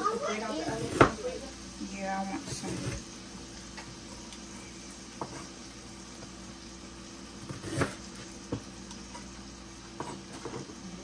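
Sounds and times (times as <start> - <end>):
pots cooking on stove hiss: 0.0 - 11.0.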